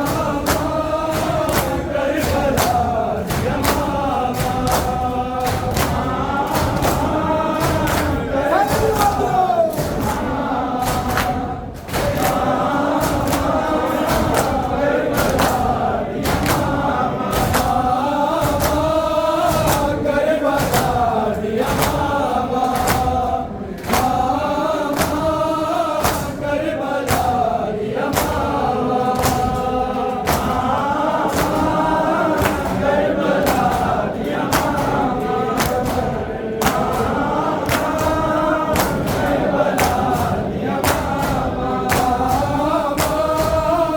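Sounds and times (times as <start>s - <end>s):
men chanting in unison: 0.0s - 43.9s
steady sharp thumps: 0.0s - 43.9s.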